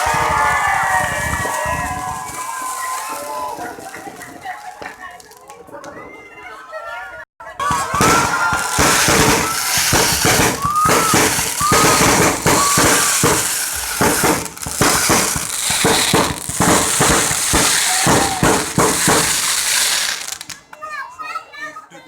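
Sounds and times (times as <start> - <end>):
firework whistling: 0.0 - 4.9, 7.6 - 20.6
firecrackers crackling bangs: 0.0 - 5.8, 7.6 - 20.7.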